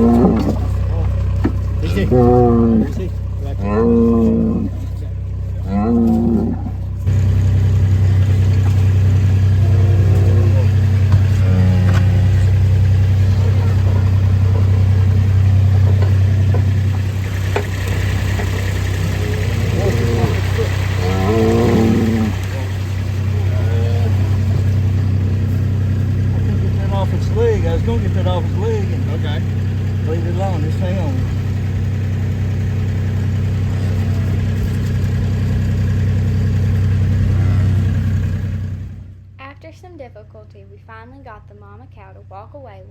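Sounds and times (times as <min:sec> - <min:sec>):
vehicle engine idling: 0:00.0 - 0:39.4.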